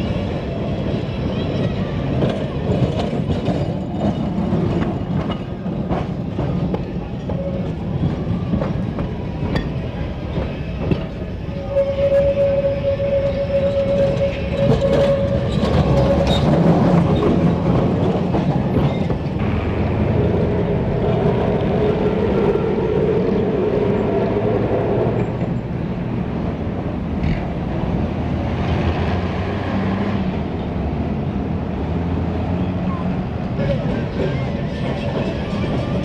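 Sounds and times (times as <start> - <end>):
tram rumbling on rails: 0.0 - 36.0
tram whining tone: 0.0 - 36.0.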